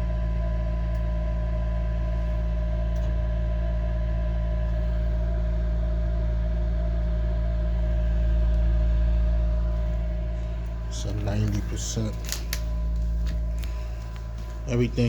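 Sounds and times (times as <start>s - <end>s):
machine hum with deep rumble: 0.0s - 15.0s.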